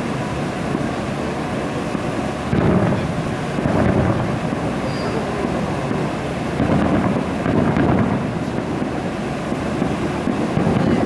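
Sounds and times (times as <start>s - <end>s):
distant fireworks booming: 0.0s - 11.0s
wind noise on microphone: 0.0s - 11.0s.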